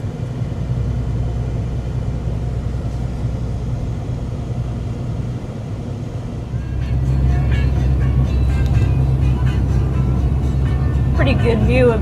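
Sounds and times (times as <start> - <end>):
road rumble: 0.0 - 12.0
vehicle engine drone: 0.0 - 12.0.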